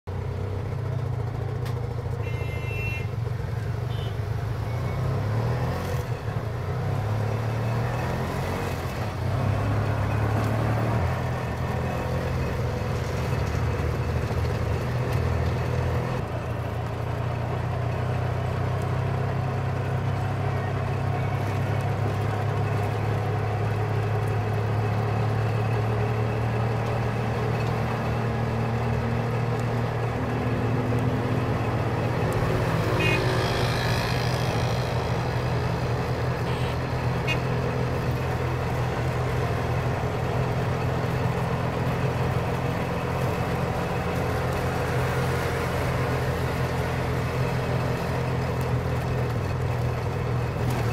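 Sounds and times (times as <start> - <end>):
auto rickshaw engine running: 0.0 - 50.9.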